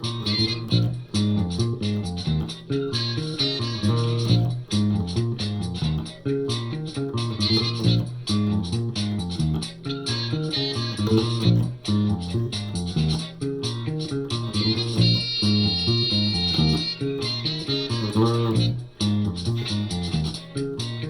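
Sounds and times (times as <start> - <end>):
bass guitar funk riff: 0.0 - 21.0
steady drum beat: 0.0 - 21.0.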